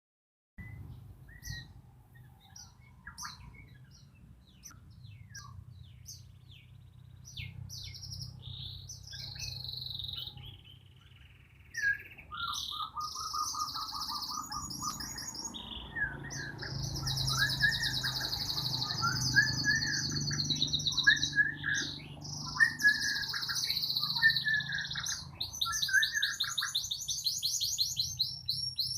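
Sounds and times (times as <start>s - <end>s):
bird singing trills and whistles: 0.6s - 28.9s.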